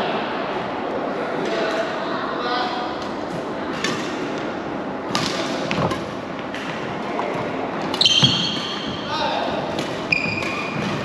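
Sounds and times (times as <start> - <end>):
sports hall noise: 0.0 - 11.0.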